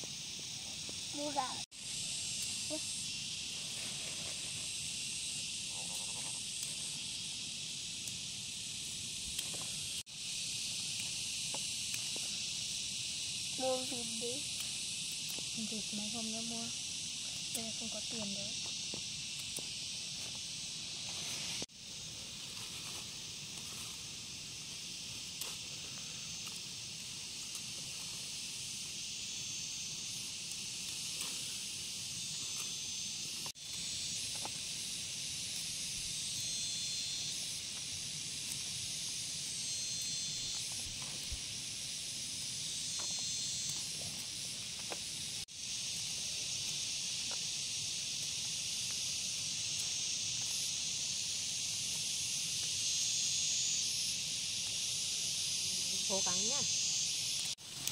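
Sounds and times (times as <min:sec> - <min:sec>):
insect chorus: 0:00.0 - 0:57.9.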